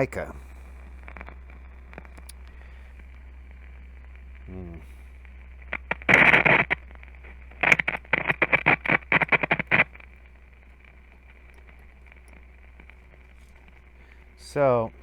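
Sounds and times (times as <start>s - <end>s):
faint hiss: 0.0s - 15.0s
low hum: 0.0s - 15.0s
radio speaker crackling and popping: 0.0s - 15.0s.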